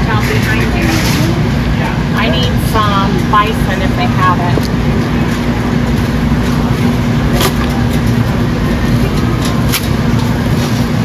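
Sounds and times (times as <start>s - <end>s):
refrigerated display cases humming: 0.0s - 11.0s.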